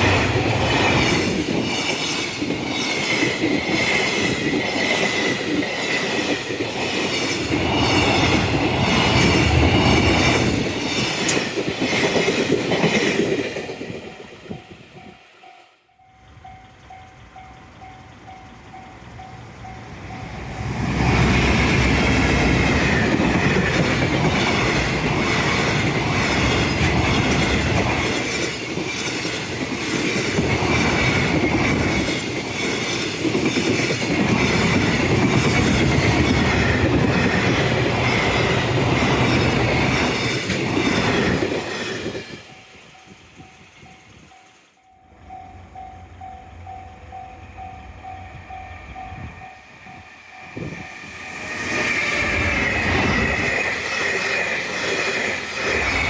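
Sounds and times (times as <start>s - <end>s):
freight train wagons rumbling: 0.0s - 15.2s, 16.0s - 44.3s, 45.0s - 56.0s
high ringing of wheels on rails: 0.0s - 56.0s.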